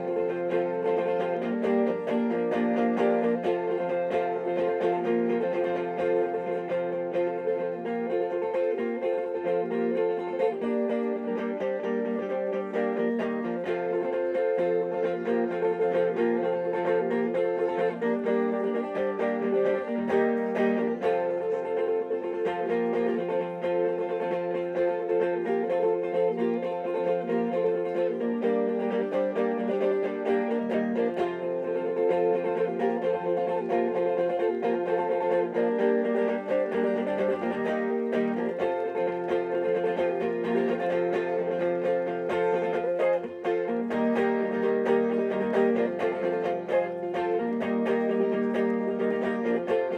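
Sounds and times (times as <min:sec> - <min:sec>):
plucked string instrument music: 0:00.0 - 0:49.9.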